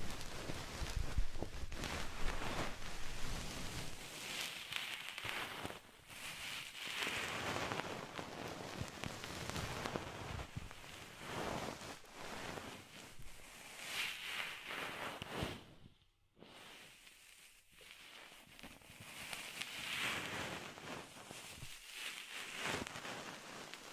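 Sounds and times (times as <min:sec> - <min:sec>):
close rustling and crackling: 0:00.0 - 0:15.6, 0:17.1 - 0:23.9.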